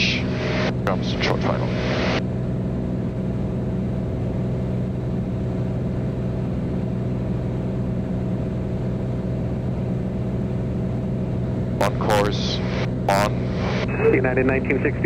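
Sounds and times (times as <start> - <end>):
piston engine and propeller droning: 0.0 - 15.0.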